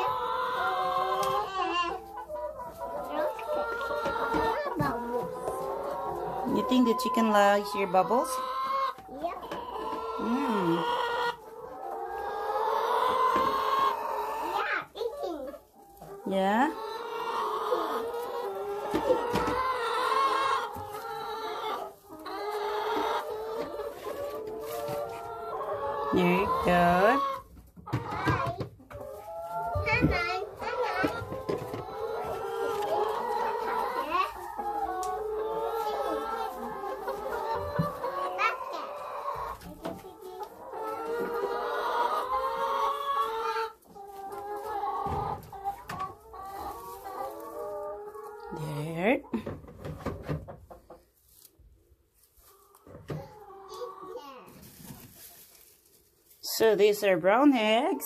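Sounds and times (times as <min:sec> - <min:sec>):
hens clucking: 0:00.0 - 0:58.0.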